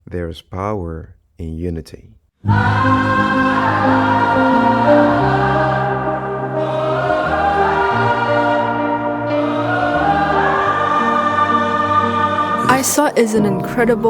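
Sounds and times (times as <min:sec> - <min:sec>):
choir singing sustained chords: 0:02.4 - 0:14.0.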